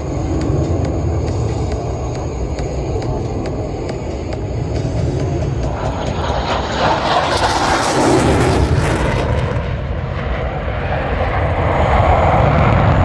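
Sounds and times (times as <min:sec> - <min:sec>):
jet engine roaring past: 0:00.0 - 0:13.0.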